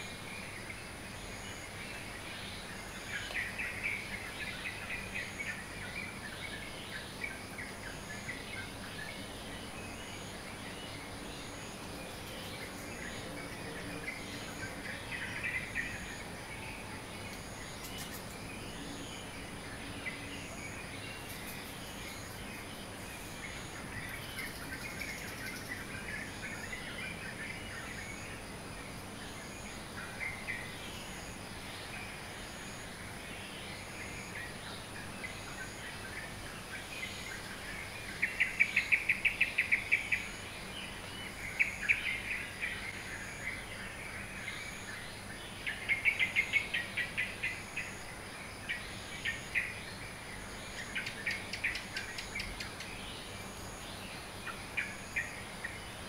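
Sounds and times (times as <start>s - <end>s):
high insect hum: 0.0s - 56.0s.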